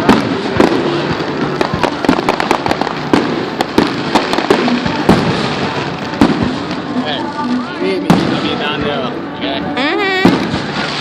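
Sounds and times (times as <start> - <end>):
continuous crackle: 0.0 - 8.8, 10.0 - 11.0
fireworks cracking and popping: 0.0 - 11.0.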